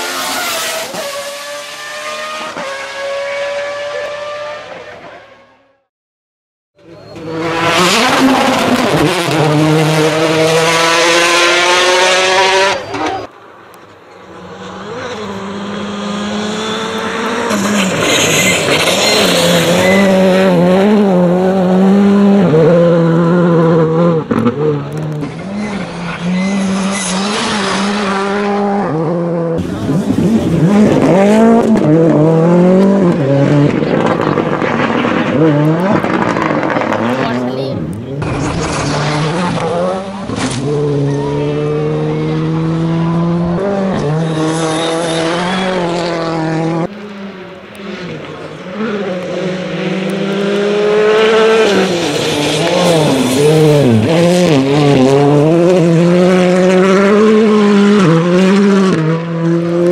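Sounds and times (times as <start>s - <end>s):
rally car engines revving: 0.0s - 5.9s, 6.8s - 59.9s.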